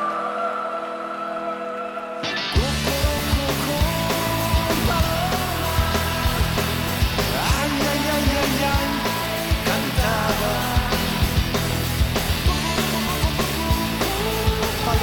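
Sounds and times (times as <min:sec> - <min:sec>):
live rock band playing: 0:02.2 - 0:15.0
drums keeping a beat: 0:02.6 - 0:15.0.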